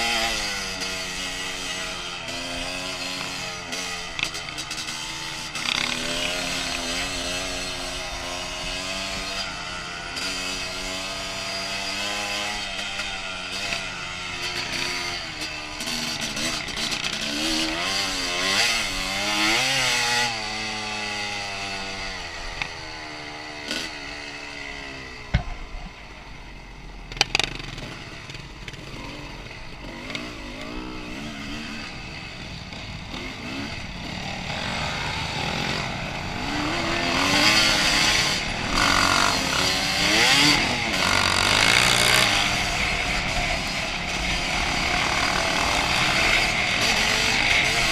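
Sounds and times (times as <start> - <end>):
two-stroke motorcycle engine revving: 0.0 - 47.9.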